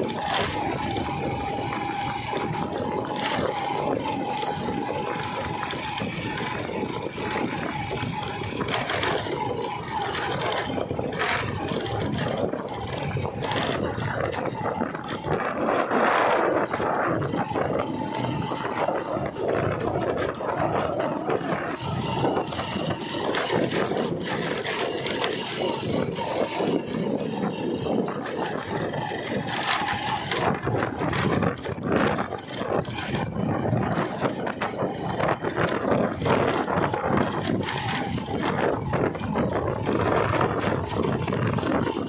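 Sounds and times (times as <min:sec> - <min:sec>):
vehicle engine running: 0:00.0 - 0:42.0
vehicle rattling and scraping: 0:00.0 - 0:42.0.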